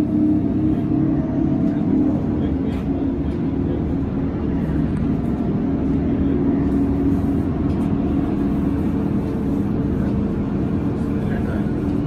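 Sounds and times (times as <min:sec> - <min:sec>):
steady hum: 0:00.0 - 0:12.0
tram wheels rumbling on rails: 0:00.0 - 0:12.0.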